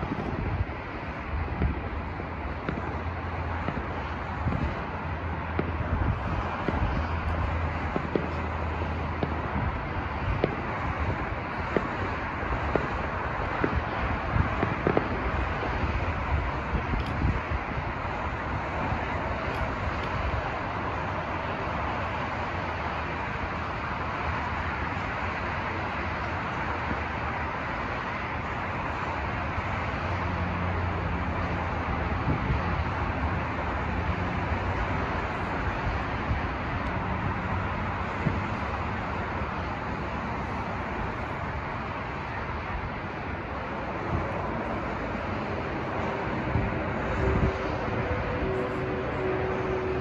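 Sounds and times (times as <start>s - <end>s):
steady outdoor rushing noise: 0.0s - 50.0s.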